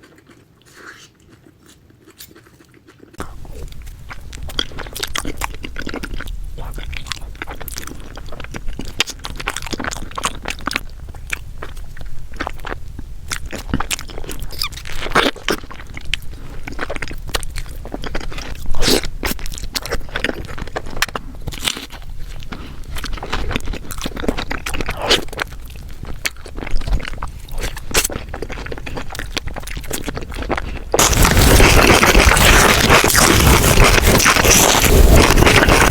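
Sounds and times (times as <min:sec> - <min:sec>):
mouth chewing with wet clicks: 0:00.0 - 0:31.2.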